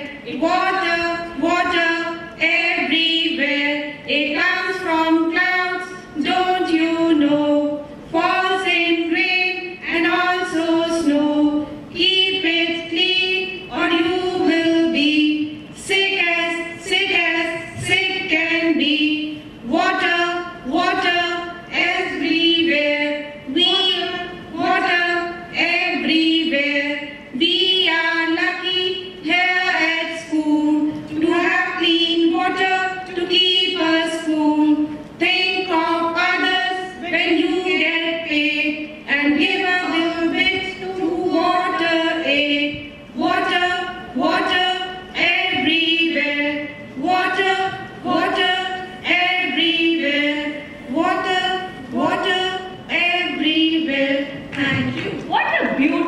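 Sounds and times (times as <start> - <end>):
woman singing unaccompanied: 0.0 - 56.0.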